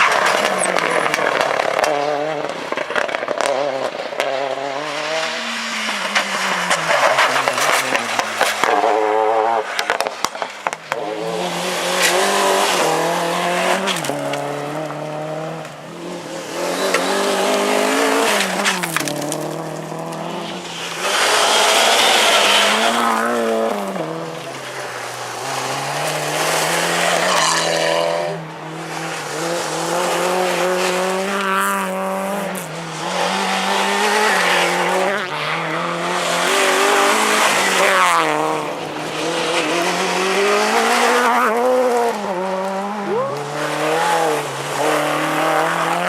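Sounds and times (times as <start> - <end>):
rally car engine revving: 0.0 - 46.0
tyres skidding: 0.0 - 46.0.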